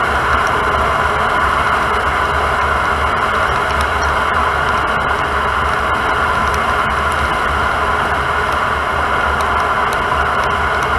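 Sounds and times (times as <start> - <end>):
road and tyre noise: 0.0 - 10.9.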